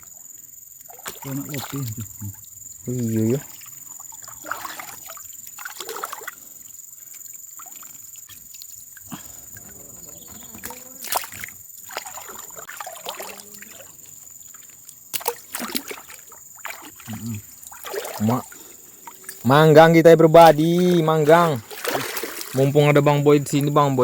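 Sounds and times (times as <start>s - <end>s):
water sloshing and splashing: 0.8s - 24.0s.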